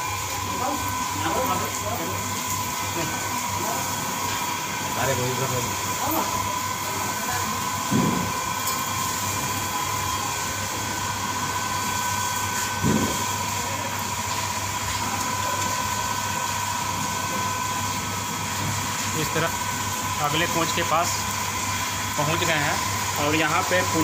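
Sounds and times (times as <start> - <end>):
machinery hum with high whine: 0.0 - 24.0.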